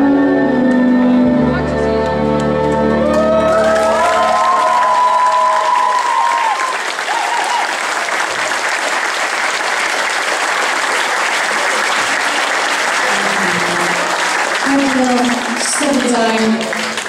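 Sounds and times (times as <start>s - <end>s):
audience applauding: 2.4s - 17.0s.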